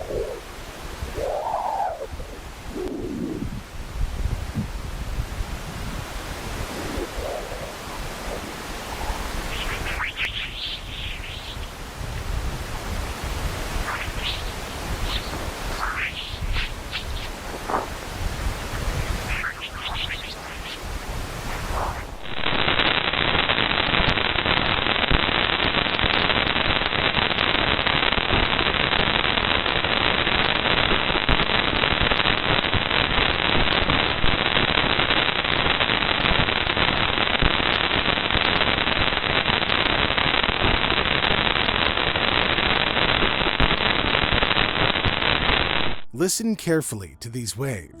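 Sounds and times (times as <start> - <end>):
crackling static hiss: 0.0 - 40.2.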